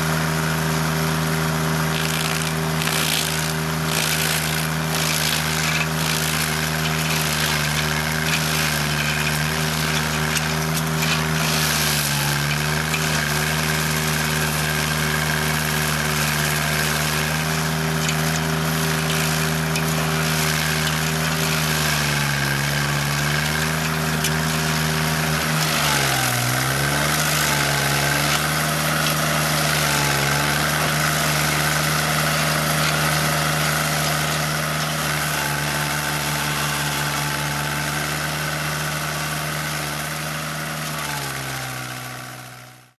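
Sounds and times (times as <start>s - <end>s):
stump grinder engine running: 0.0s - 42.9s
grinding hiss: 1.8s - 37.7s.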